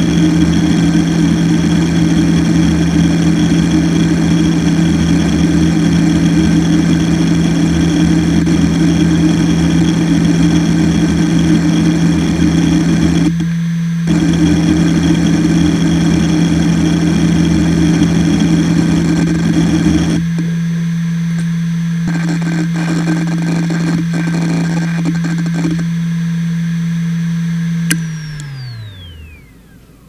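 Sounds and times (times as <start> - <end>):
hard drive seek chatter: 0.0 - 20.6, 21.3 - 26.2, 27.9 - 30.0
hard drive spindle whine: 0.0 - 30.0.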